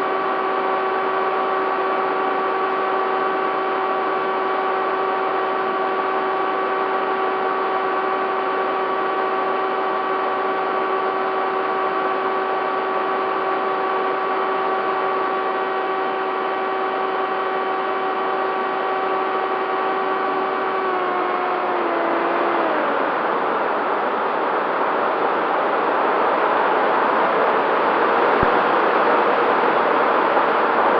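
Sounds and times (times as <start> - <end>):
electric propeller motor whine: 0.0 - 30.9.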